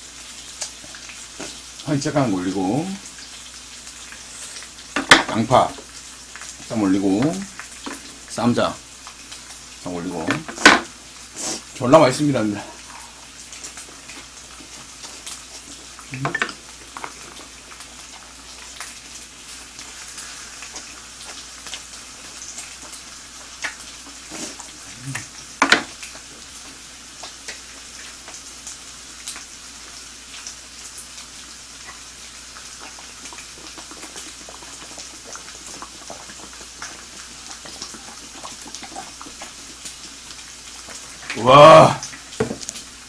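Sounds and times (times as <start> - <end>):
pork sizzling on griddle: 0.0 - 43.0.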